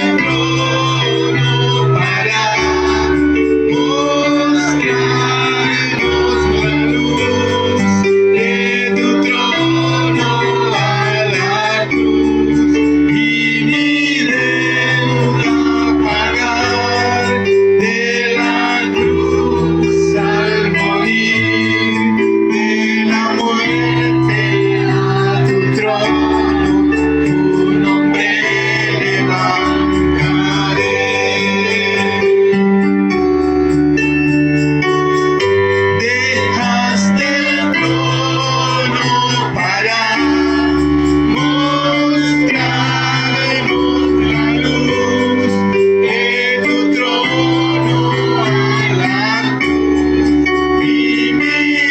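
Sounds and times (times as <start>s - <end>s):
person singing: 0.0s - 33.8s, 34.8s - 51.9s
keyboard organ chords: 0.0s - 51.9s.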